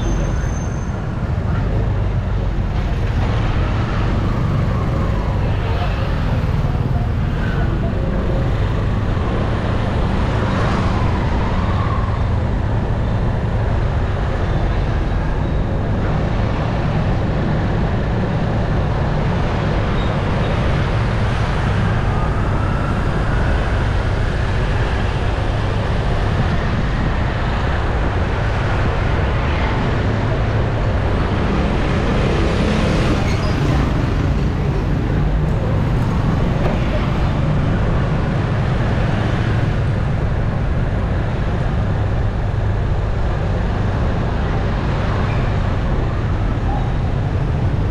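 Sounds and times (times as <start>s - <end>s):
street traffic noise: 0.0s - 47.9s.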